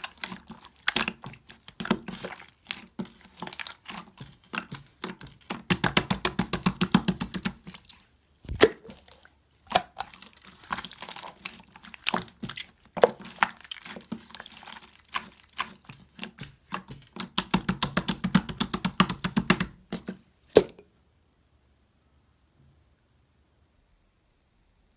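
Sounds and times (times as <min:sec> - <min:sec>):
slime squeezed by hand: 0:00.0 - 0:20.8.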